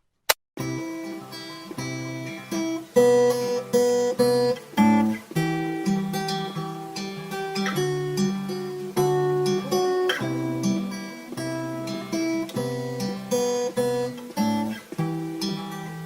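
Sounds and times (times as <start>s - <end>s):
guitar strumming chords: 0.6s - 16.0s.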